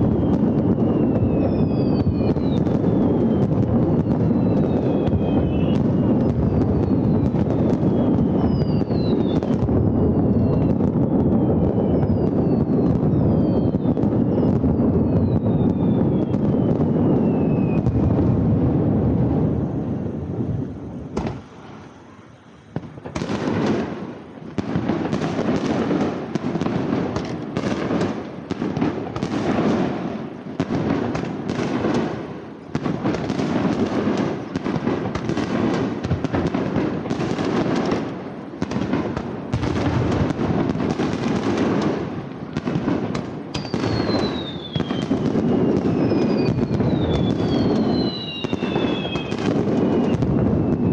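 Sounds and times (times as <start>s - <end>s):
falling fireworks whistles: 0.0s - 50.9s
fireworks bangs: 0.0s - 50.9s.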